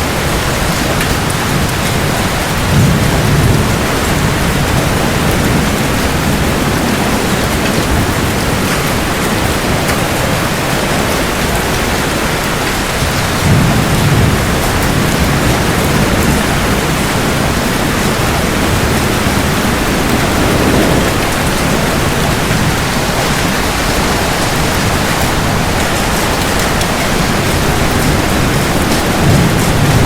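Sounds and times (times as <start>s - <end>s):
heavy rain falling: 0.0s - 30.0s
thunder rumbling: 0.0s - 30.0s.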